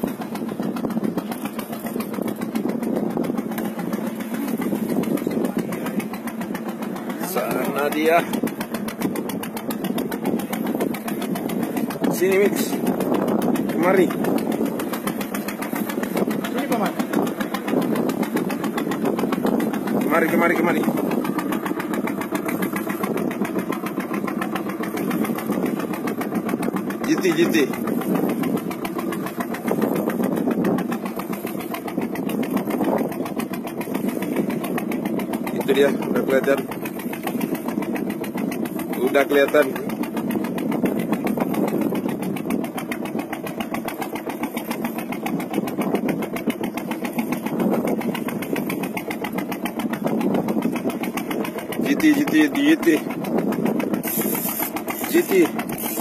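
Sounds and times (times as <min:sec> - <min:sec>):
boat engine throbbing: 0:00.0 - 0:56.0.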